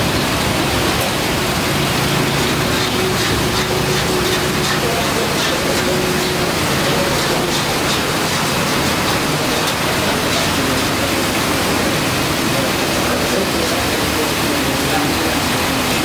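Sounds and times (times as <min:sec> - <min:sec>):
gas burners hissing: 0:00.0 - 0:16.0.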